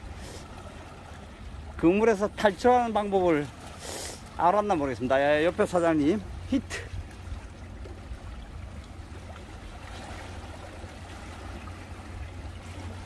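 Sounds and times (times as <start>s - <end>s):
seawater lapping among rocks: 0.0s - 13.0s.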